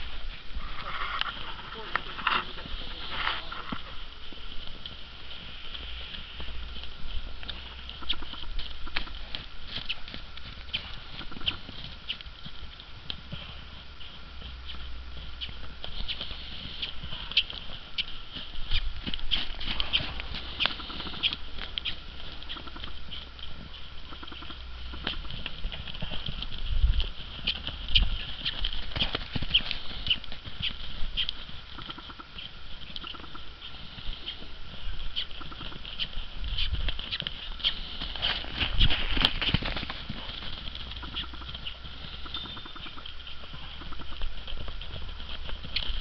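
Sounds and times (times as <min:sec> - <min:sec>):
hooves on frozen ground: 0:00.0 - 0:46.0.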